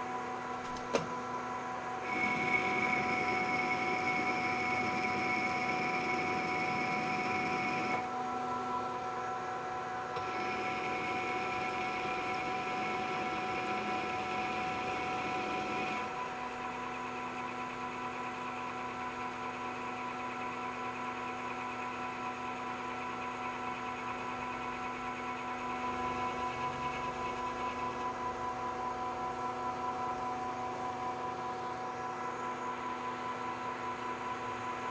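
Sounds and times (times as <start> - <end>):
metal lathe whine: 0.0 - 34.9.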